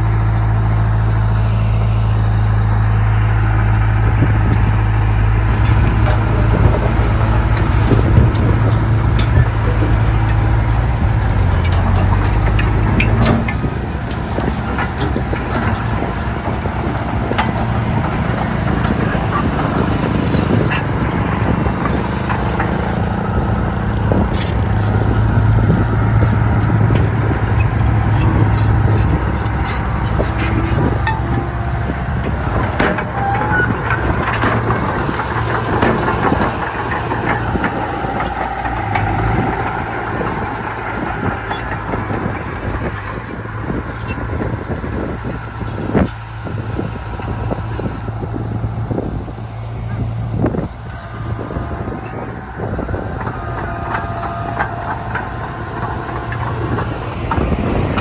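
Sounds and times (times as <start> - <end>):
heavy diesel machinery under load: 0.0 - 58.0
metallic clanks and squeaks: 2.4 - 58.0.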